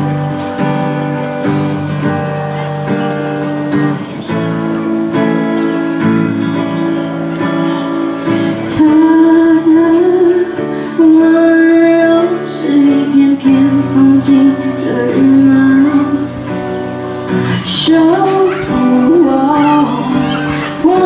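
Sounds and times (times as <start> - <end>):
guitar strumming chords: 0.0 - 21.0.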